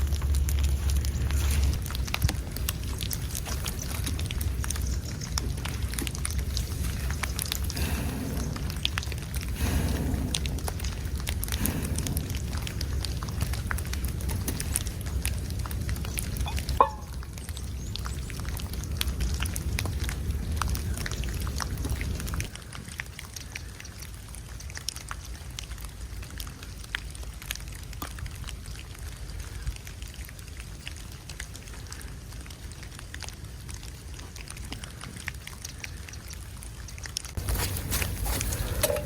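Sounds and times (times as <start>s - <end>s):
small ticks and crackles: 0.0s - 39.0s
wind rumbling on microphone: 0.0s - 39.0s.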